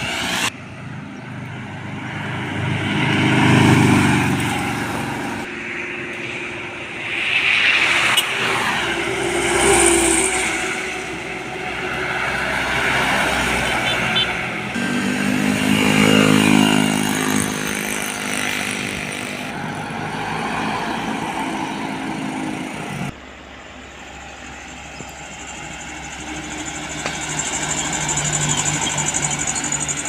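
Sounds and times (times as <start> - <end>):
trucks driving past: 0.0 - 30.0.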